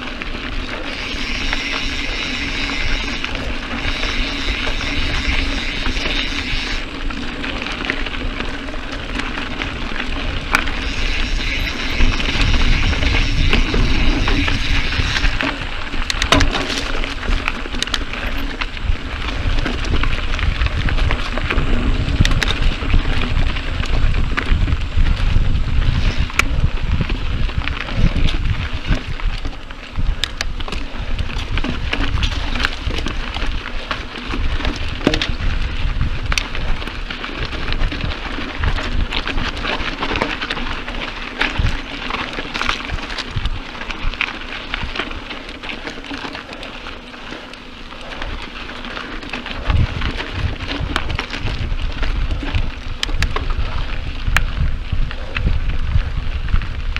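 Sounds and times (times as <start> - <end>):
tyres crunching on gravel: 0.0 - 54.2
bike clicks and rattles: 0.0 - 56.9
wind buffeting microphone: 0.0 - 56.9.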